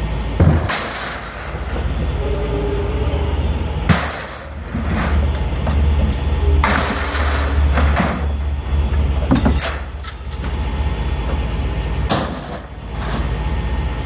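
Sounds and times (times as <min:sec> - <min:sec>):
low engine rumble: 0:00.0 - 0:14.0
scrap metal clanking: 0:00.4 - 0:13.8.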